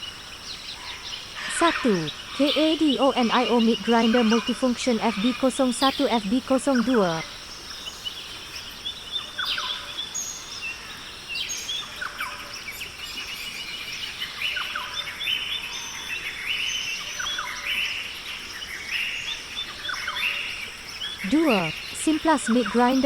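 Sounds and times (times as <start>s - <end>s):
birds chirping and calling: 0.0s - 23.0s
steady background hiss: 0.0s - 23.0s.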